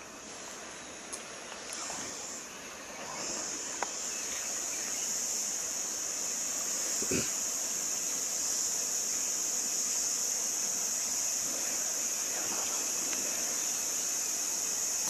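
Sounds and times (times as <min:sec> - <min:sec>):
faint water sounds: 0:00.0 - 0:15.0
insect chorus drone: 0:00.0 - 0:15.0.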